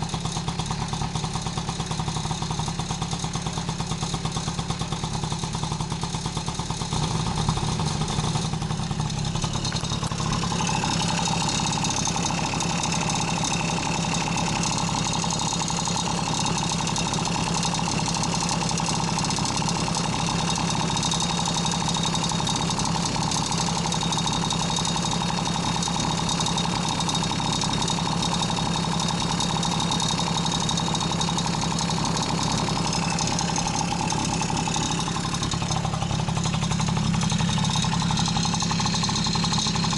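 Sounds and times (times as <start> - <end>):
small two-stroke engine idling: 0.0 - 39.9.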